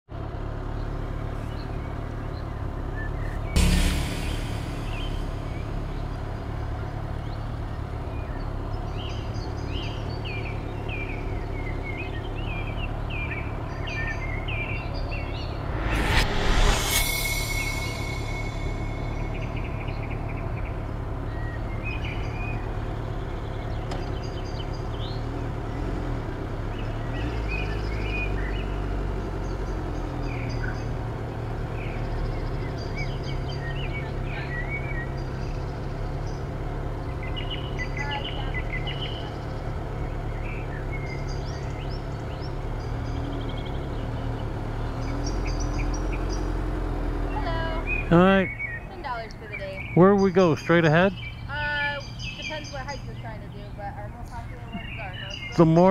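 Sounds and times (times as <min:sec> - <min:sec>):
small birds chirping: 0:00.2 - 0:03.6, 0:05.9 - 0:15.6, 0:17.3 - 0:55.9
motorcycle engine rumbling: 0:00.2 - 0:55.9.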